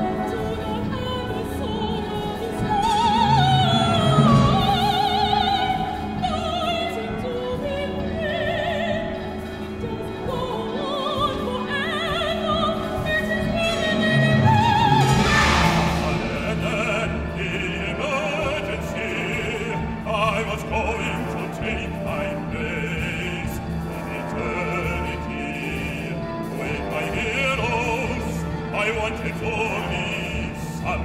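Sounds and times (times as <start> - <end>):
woman singing operatic solo: 0.0 - 30.0
chamber orchestra accompaniment: 0.0 - 31.0.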